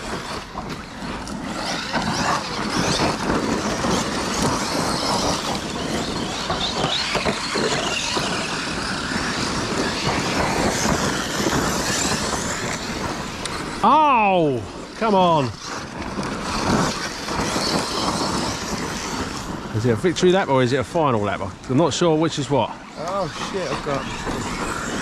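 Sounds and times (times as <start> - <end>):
electric motors whining: 0.0 - 25.0
tyres churning over gravel: 0.0 - 25.0.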